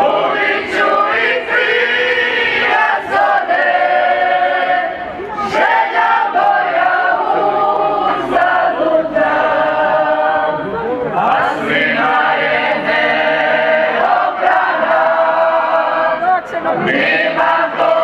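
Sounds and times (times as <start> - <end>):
group of people singing: 0.0 - 18.0.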